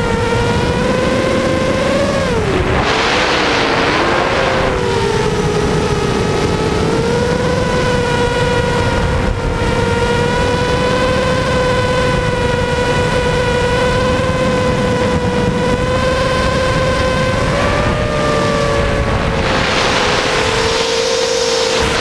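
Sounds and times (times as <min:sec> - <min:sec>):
drone motors whining: 0:00.0 - 0:22.0
wind rush on microphone: 0:00.0 - 0:22.0.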